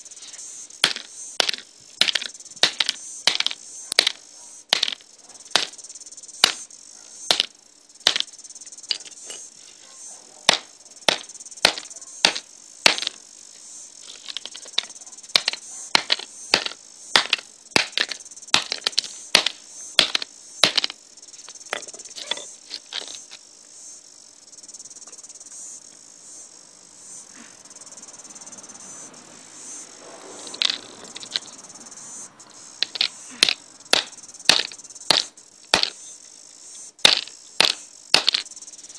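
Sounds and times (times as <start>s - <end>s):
high-pitched buzzing drone: 0.0s - 38.9s.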